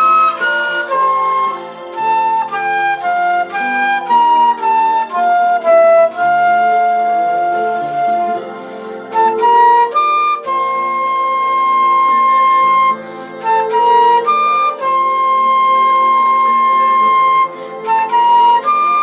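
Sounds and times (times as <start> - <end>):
slow instrumental melody with chords: 0.0 - 19.0.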